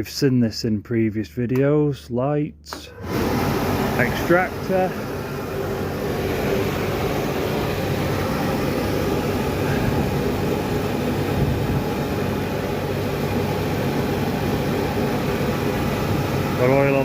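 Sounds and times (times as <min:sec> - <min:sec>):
low steady hum: 0:00.0 - 0:17.0
extractor fan rushing drone: 0:02.9 - 0:17.0.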